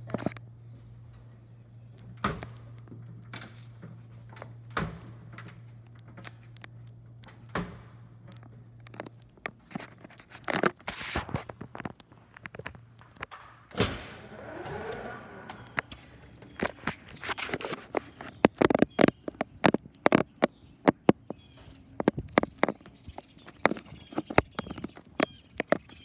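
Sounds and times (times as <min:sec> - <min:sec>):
sharp clicks and knocks: 0:00.0 - 0:26.0.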